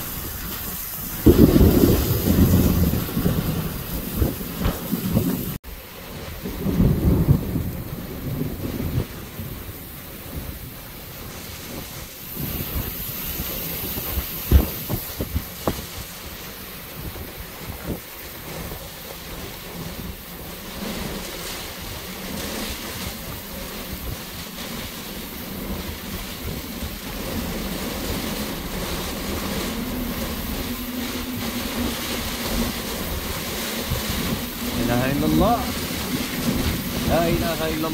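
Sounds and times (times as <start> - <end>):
heavy rain pouring: 0.0 - 37.9
wind buffeting microphone: 0.0 - 37.9.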